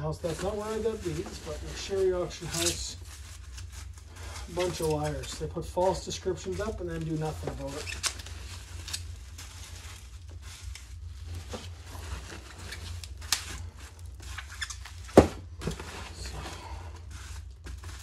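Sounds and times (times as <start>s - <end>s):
foam and plastic squeaking and rustling: 0.0s - 18.0s.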